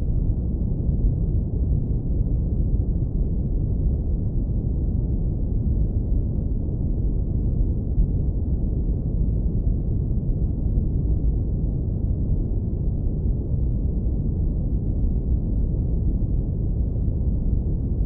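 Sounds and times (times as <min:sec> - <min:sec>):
deep rumble of brown noise: 0:00.0 - 0:18.0.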